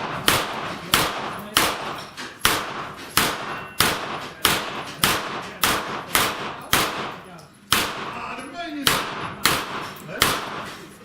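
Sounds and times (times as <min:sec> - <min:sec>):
bullets hitting steel plates: 0:00.0 - 0:10.9
gunshots with echo: 0:00.0 - 0:10.9.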